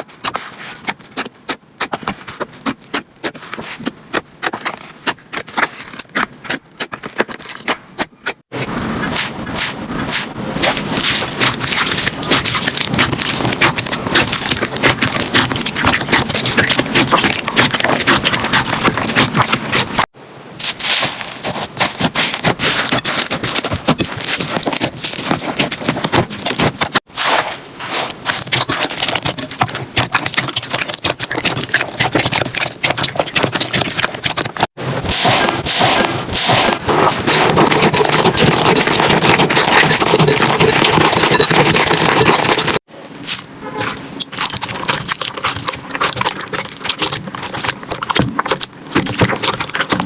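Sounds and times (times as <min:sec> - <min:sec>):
slime squishing and crackling: 0:00.0 - 0:50.0.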